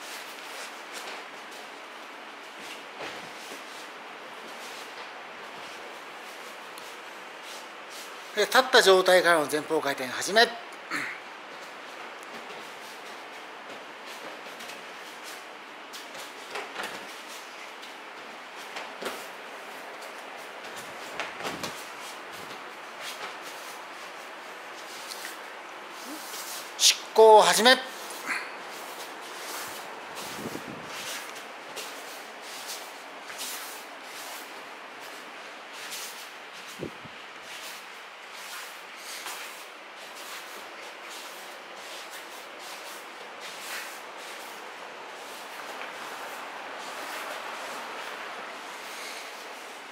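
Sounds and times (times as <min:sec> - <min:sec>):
steady background hiss: 0:00.0 - 0:49.9
knees sliding on mats: 0:02.4 - 0:08.3, 0:11.5 - 0:26.8, 0:27.9 - 0:49.9.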